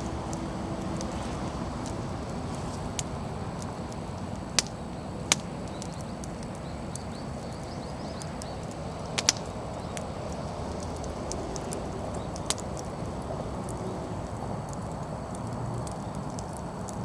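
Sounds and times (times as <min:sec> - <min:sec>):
bonfire rushing: 0:00.0 - 0:17.0
firewood crackling pops: 0:00.0 - 0:17.0.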